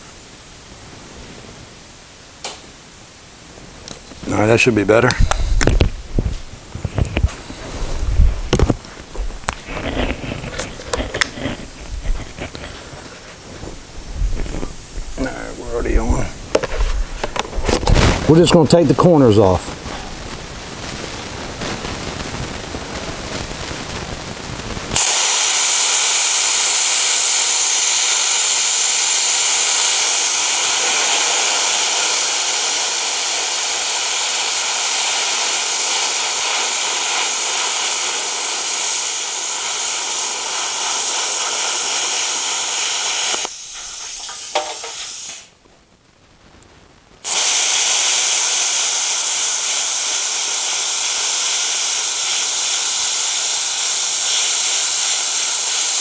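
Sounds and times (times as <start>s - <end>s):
plasma cutter hissing: 3.9s - 6.4s, 7.3s - 16.4s, 17.7s - 45.6s, 47.2s - 56.0s.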